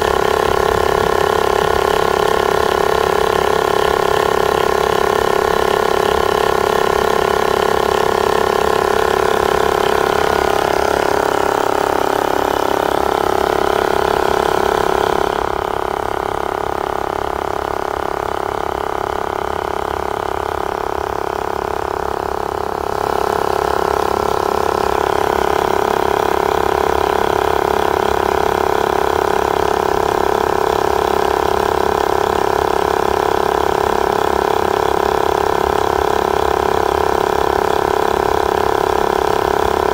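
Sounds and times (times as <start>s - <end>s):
electric tyre inflator buzzing: 0.0s - 39.9s.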